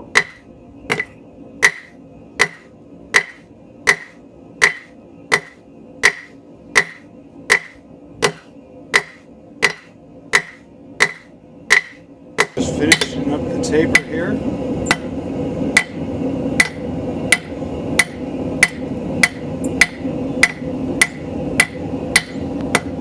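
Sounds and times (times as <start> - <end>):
hammer striking steel on anvil: 0.0 - 13.2, 13.9 - 14.2, 14.9 - 15.1, 15.7 - 16.0, 16.6 - 23.0.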